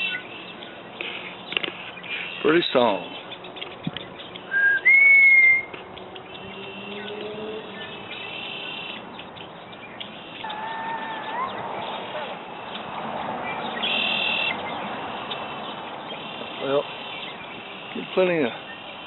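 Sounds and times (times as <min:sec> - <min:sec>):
blackbirds whistling: 0:00.0 - 0:19.0.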